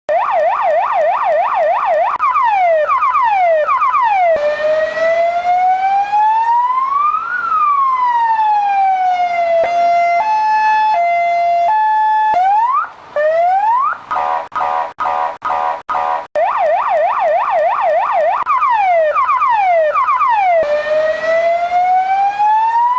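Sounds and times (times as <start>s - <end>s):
ambulance siren: 0.1s - 22.9s.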